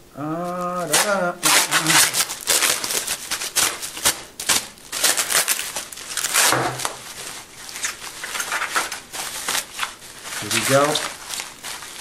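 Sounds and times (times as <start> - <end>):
packing material rustling and crinkling: 0.3 - 12.0.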